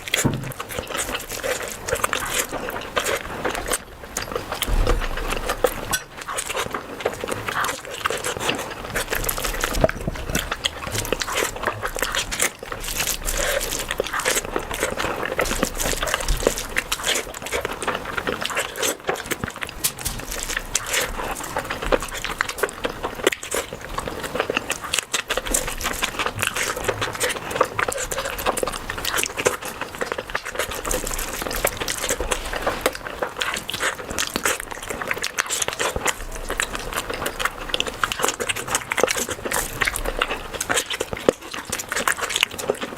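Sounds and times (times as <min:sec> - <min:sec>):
person chewing and smacking: 0:00.0 - 0:42.9.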